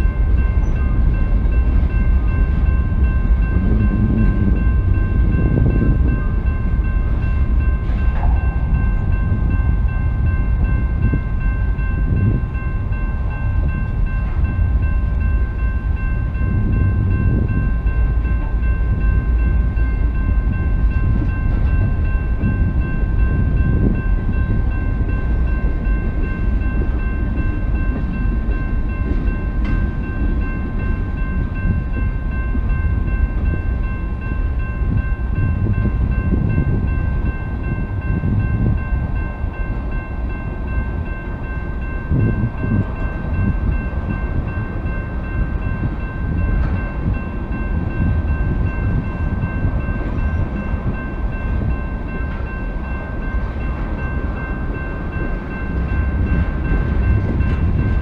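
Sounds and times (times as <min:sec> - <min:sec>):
freight train rolling past: 0:00.0 - 0:58.0
steel wheels rumbling on rail: 0:00.0 - 0:58.0.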